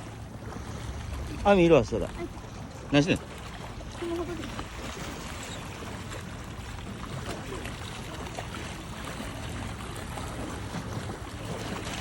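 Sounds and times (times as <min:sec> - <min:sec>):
moving water: 0:00.0 - 0:12.0.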